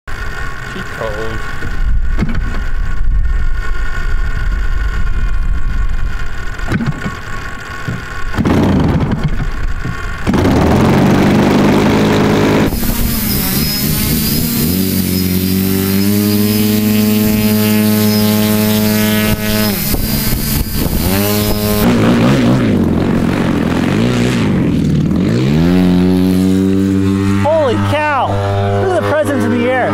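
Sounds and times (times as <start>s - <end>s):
model plane engine running: 0.1s - 29.9s.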